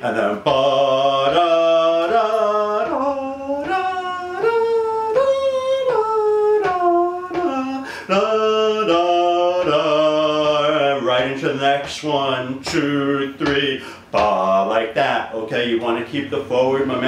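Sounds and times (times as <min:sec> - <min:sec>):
man singing arpeggio exercise: 0:00.0 - 0:17.0.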